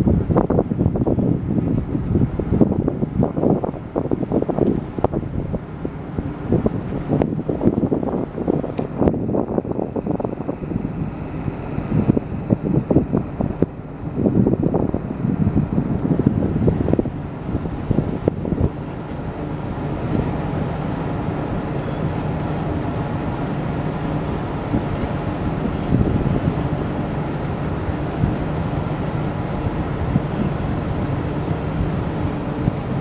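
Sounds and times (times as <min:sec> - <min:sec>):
low ship engine hum: 0:00.0 - 0:33.0
wind buffeting microphone: 0:00.0 - 0:33.0.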